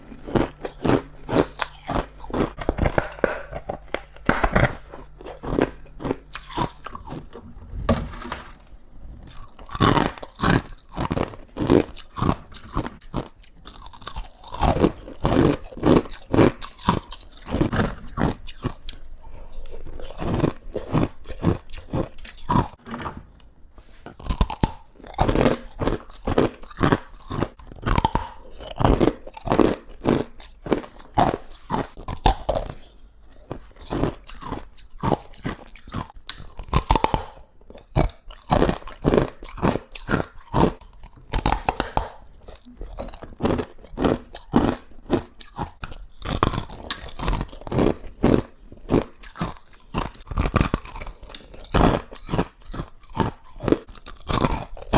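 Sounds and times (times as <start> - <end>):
ice crunching between teeth: 0.0 - 7.5, 9.2 - 54.9.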